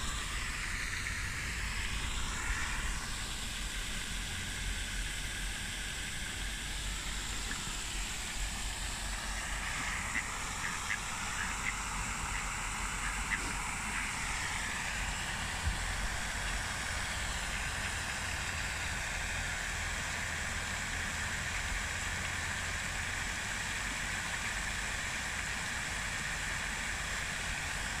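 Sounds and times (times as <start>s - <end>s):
fountain water splashing: 0.0s - 28.0s.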